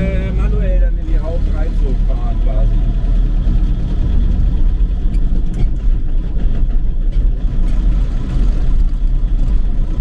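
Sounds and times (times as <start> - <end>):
tractor engine rumbling: 0.0 - 10.0.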